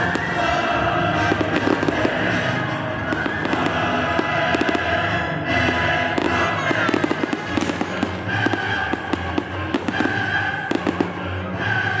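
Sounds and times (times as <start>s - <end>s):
fireworks bursting and crackling: 0.0s - 12.0s
music playing: 0.0s - 12.0s.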